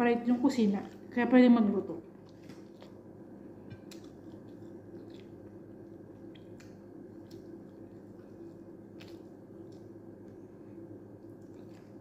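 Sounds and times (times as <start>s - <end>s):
steady low hum: 0.0s - 12.0s
person chewing: 2.1s - 12.0s.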